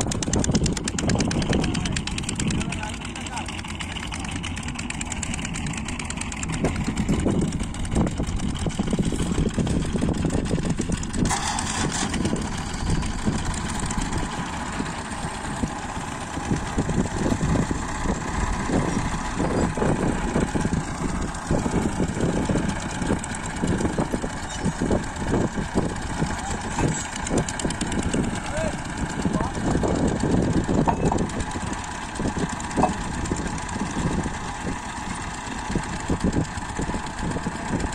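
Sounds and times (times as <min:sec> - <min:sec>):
diesel tractor engine idling: 0:00.0 - 0:37.9.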